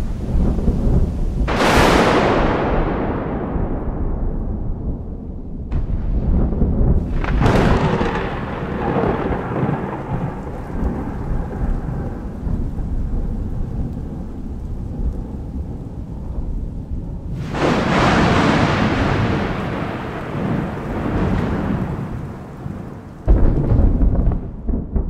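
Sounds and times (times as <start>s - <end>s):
thunder clap: 0.0s - 16.7s, 17.3s - 25.0s
low thunder rumble: 0.0s - 25.0s.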